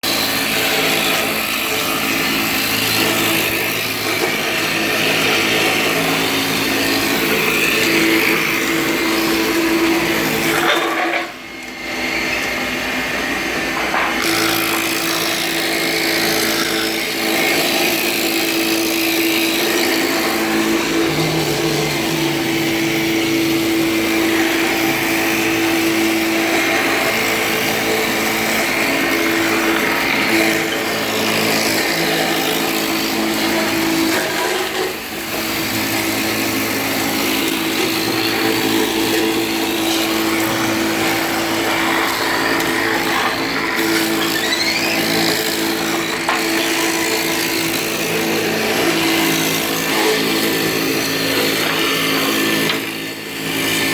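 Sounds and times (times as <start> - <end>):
wood rounding machine cutting: 0.0 - 53.9.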